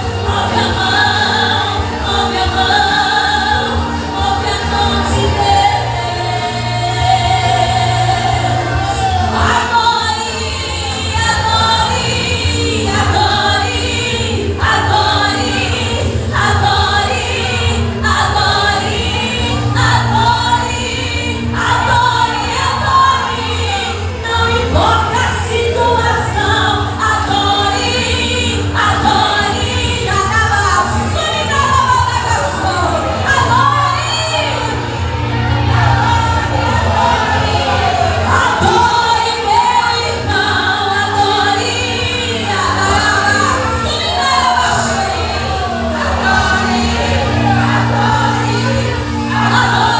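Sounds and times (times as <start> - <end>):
vocal group singing a hymn: 0.0 - 49.9.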